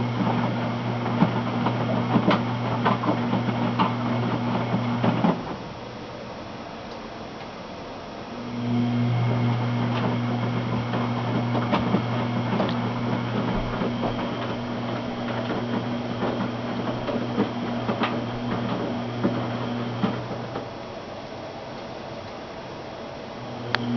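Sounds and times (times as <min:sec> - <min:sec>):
washing machine motor hum: 0:00.0 - 0:23.9.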